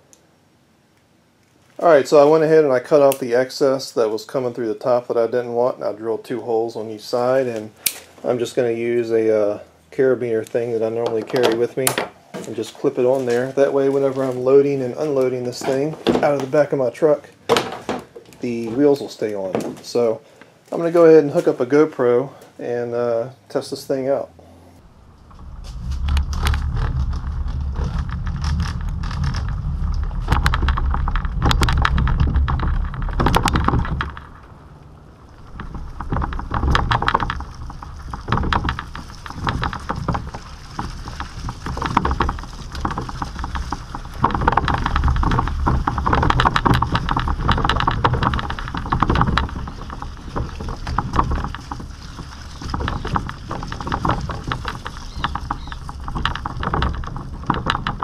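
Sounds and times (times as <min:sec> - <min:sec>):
plastic wheels rolling: 0:01.5 - 0:58.0
cart and kayak rattling: 0:01.8 - 0:58.0.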